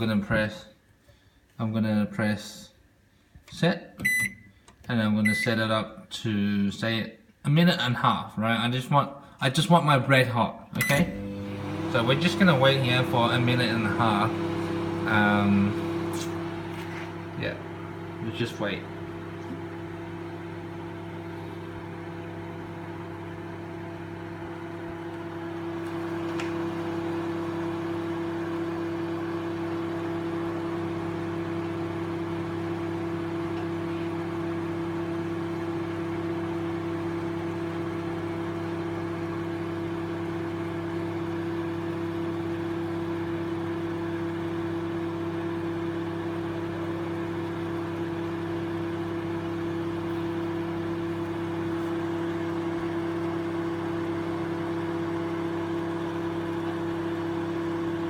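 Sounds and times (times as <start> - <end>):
microwave oven humming: 10.8 - 58.0.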